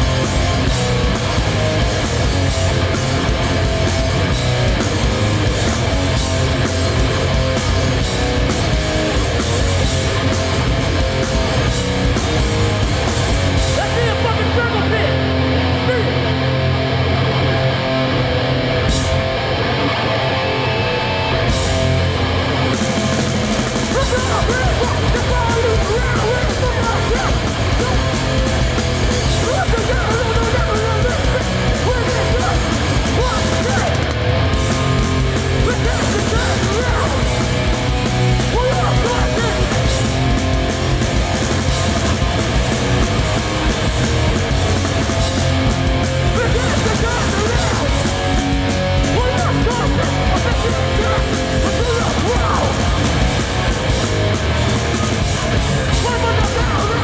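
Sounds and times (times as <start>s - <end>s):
bass guitar: 0.0s - 57.0s
distorted electric guitars: 0.0s - 57.0s
drums: 0.0s - 57.0s.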